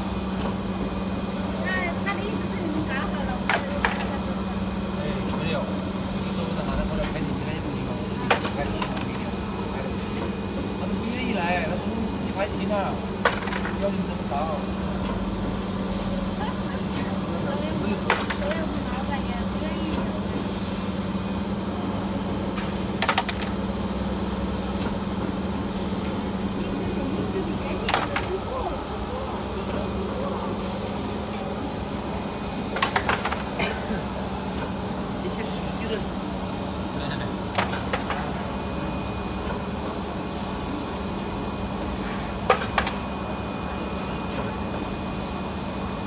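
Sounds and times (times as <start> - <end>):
spring forming machine humming: 0.0 - 46.0.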